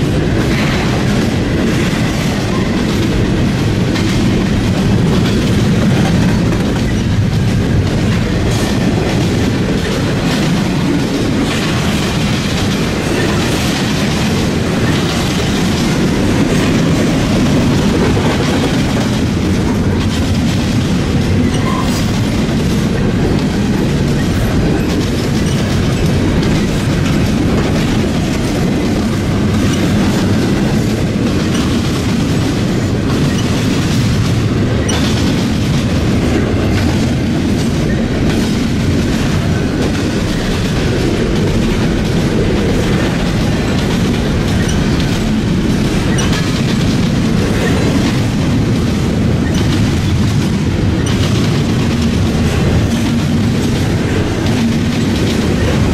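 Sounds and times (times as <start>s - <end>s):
train cars rumbling: 0.0s - 55.9s
wheels clicking on rails: 0.0s - 55.9s.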